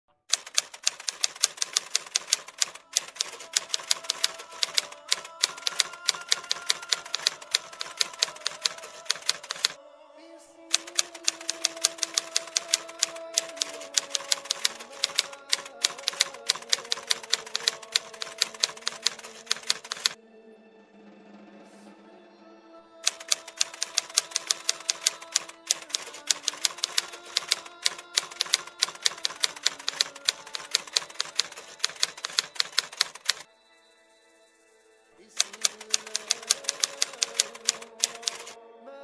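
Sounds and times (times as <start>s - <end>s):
keyboard key clicks: 0.3s - 9.8s, 10.7s - 20.2s, 23.1s - 33.4s, 35.4s - 38.6s
soft background music: 0.9s - 39.0s.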